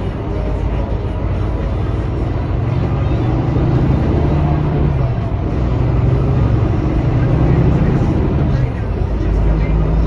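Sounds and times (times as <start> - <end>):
bus engine hum: 0.0 - 10.0
road noise: 0.0 - 10.0.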